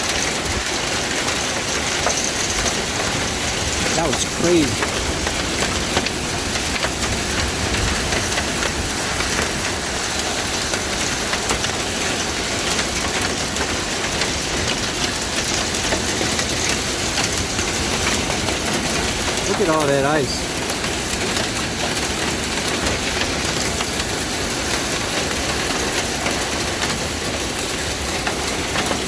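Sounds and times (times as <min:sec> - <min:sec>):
heavy rain falling: 0:00.0 - 0:29.0
raindrops tapping surfaces: 0:00.0 - 0:29.0.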